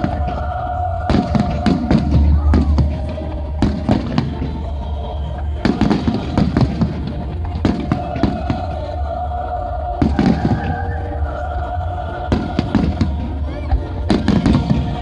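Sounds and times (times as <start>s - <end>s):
fireworks booming and crackling: 0.0s - 9.0s, 9.8s - 11.4s, 12.1s - 15.0s.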